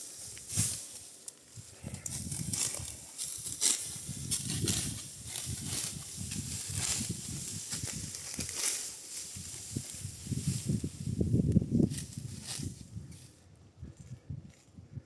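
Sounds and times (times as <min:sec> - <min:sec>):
dry wheat stalks rustling: 0:00.0 - 0:14.8.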